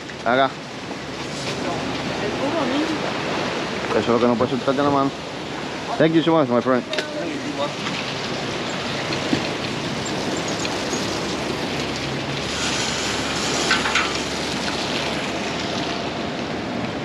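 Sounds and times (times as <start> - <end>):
hose spraying water: 1.1 - 16.6.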